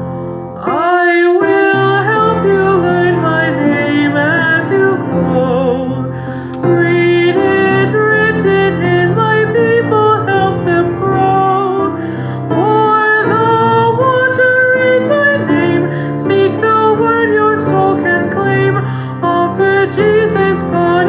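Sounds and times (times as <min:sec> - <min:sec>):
piano accompaniment: 0:00.0 - 0:21.0
woman singing a hymn: 0:00.6 - 0:21.0.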